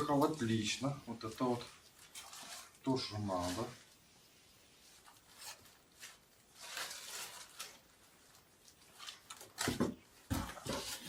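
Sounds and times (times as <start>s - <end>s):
packing material rustling: 0.0s - 4.2s, 4.8s - 11.0s.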